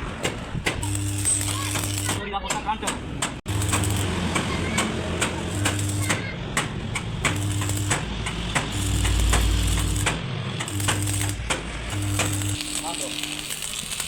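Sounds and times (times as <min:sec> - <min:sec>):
sharp metal clicks and taps: 0:00.2 - 0:12.6.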